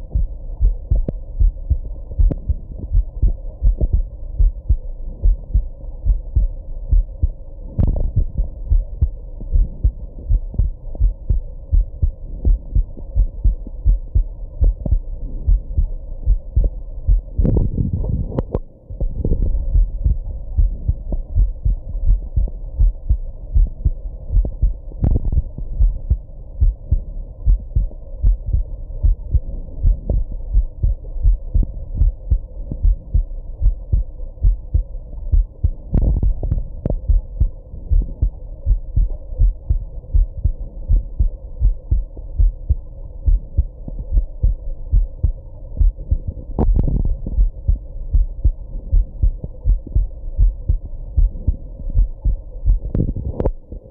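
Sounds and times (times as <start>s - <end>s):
muffled heartbeat: 0.0s - 53.9s.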